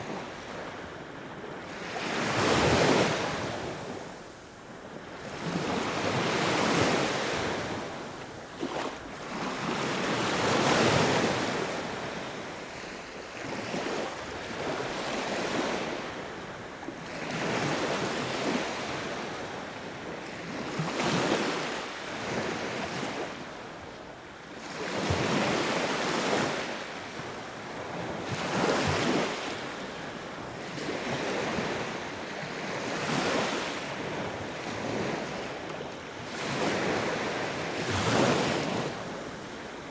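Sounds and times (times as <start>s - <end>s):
sea waves breaking on shore: 1.7s - 19.6s, 24.6s - 39.9s.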